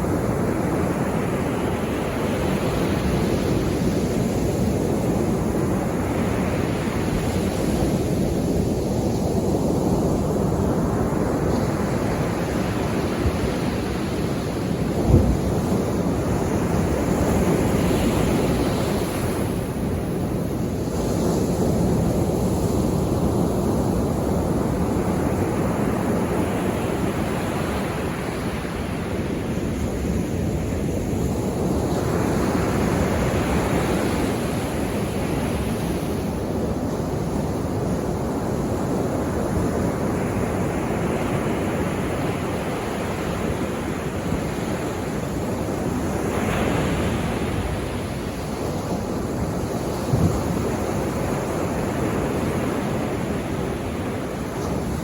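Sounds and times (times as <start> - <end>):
sea waves on the shore: 0.0 - 55.0.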